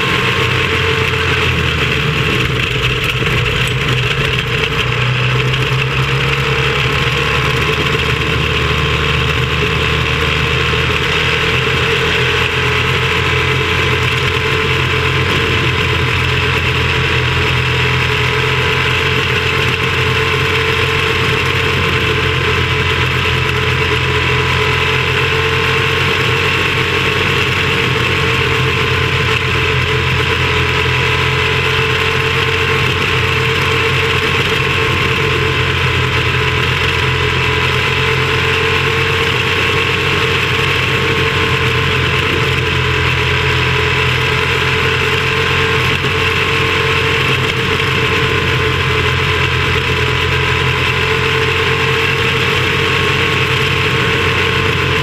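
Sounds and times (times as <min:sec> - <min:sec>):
small racing engine running hard: 0:00.0 - 0:55.0.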